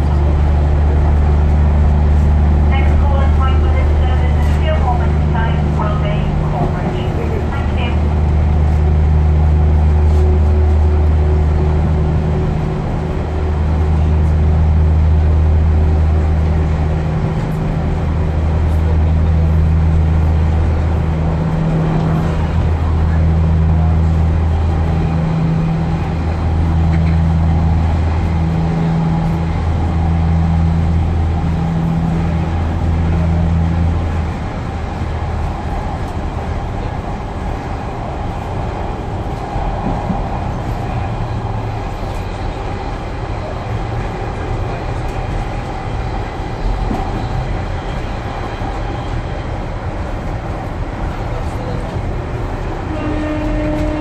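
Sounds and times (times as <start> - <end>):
railcar interior deep hum: 0.0 - 54.0.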